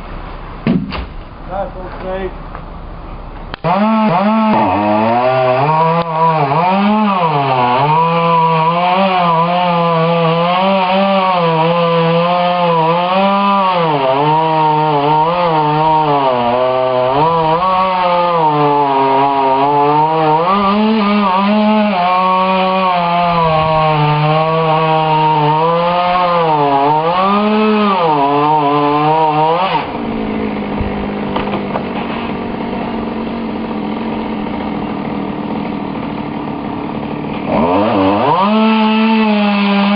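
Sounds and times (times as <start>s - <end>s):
chainsaw cutting wood: 3.4s - 39.9s.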